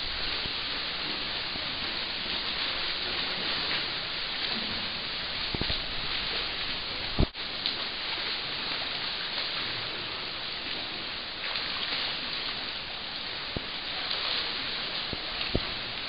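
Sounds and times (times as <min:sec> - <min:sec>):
water splashing from swimmers: 0:00.0 - 0:16.0.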